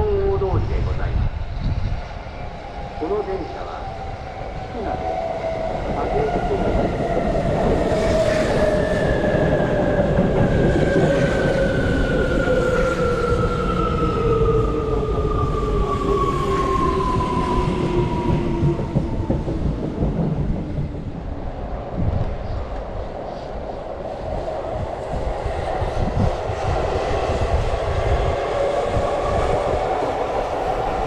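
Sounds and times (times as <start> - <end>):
wheels rumbling on rail: 0.0 - 31.0.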